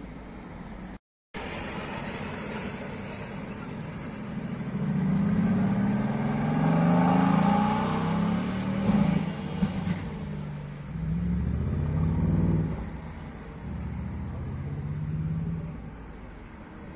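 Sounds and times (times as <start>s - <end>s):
car engine accelerating: 1.5s - 16.3s.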